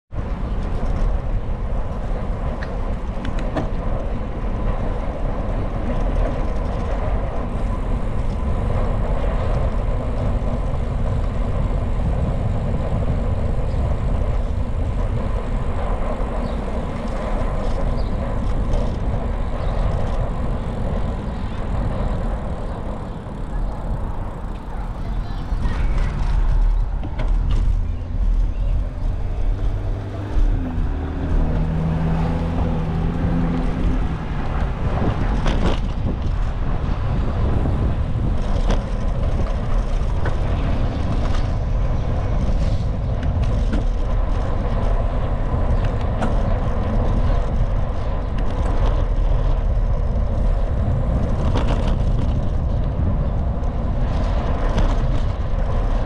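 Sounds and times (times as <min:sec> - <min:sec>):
road traffic: 0:00.1 - 0:56.0
wind rumble on microphone: 0:00.1 - 0:56.0.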